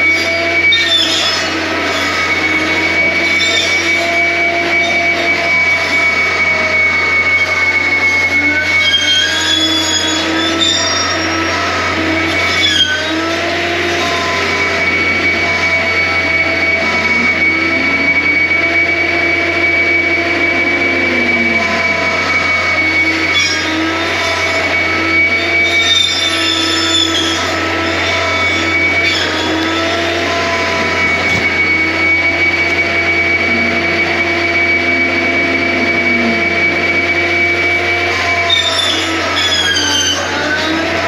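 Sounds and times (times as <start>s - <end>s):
diesel engine drone: 0.0s - 41.0s
high hydraulic whine: 0.0s - 41.0s.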